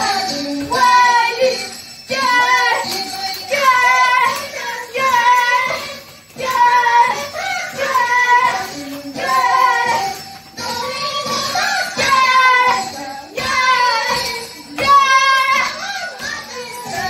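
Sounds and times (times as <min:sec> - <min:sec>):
carnival music: 0:00.0 - 0:17.0
high voices singing: 0:00.0 - 0:17.0.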